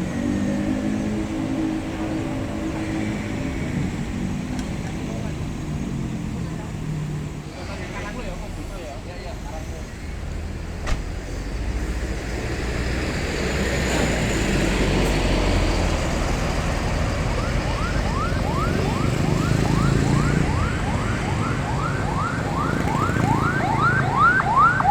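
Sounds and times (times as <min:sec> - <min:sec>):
bus engine: 0:00.0 - 0:24.9
road noise: 0:00.0 - 0:24.9.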